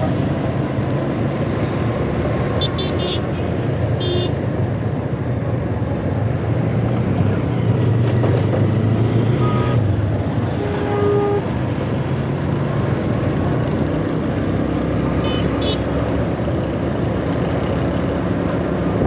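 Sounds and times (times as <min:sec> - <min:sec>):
street traffic: 0:00.0 - 0:19.0
wind and road noise: 0:00.0 - 0:19.0.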